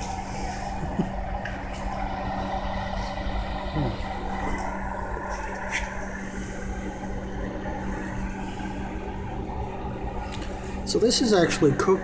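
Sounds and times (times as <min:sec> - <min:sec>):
microwave transformer humming: 0:00.0 - 0:12.0.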